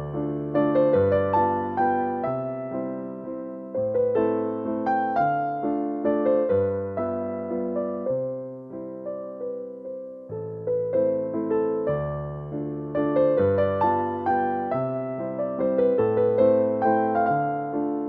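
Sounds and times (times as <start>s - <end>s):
electric piano chords: 0.0s - 18.0s.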